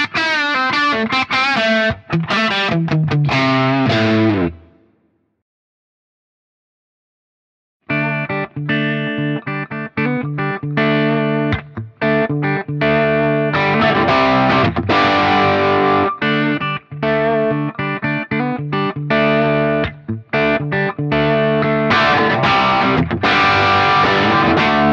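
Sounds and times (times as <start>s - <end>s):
distorted electric guitar: 0.0s - 4.8s, 7.9s - 24.9s.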